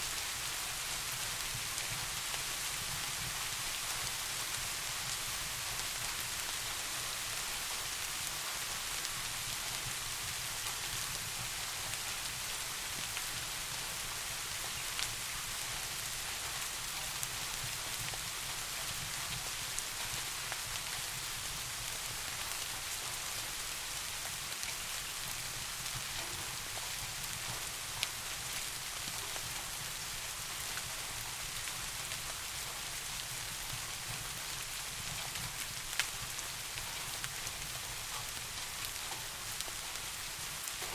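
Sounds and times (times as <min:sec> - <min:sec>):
soft rain falling: 0:00.0 - 0:40.9.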